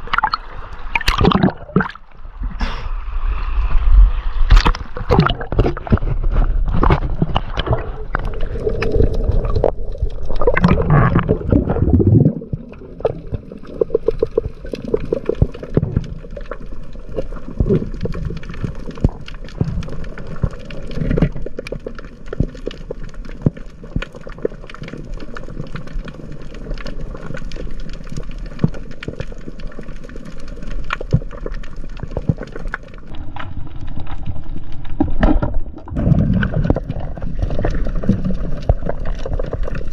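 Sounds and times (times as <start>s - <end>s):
muffled underwater sloshing: 3.3s - 39.9s.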